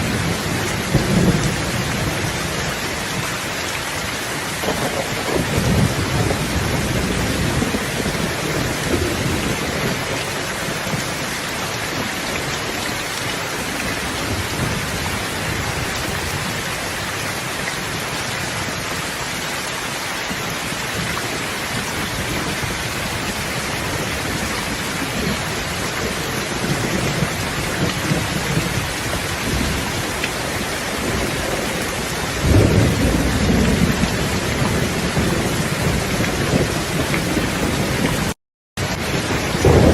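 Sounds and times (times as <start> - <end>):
thunder rumbling: 0.0 - 18.0, 20.7 - 39.9
steady rain hissing: 0.0 - 39.9.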